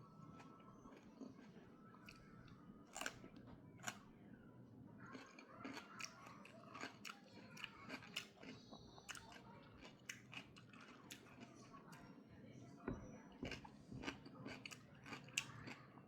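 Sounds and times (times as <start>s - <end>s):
person chewing food: 0.2s - 4.0s, 5.0s - 12.0s, 13.4s - 15.9s.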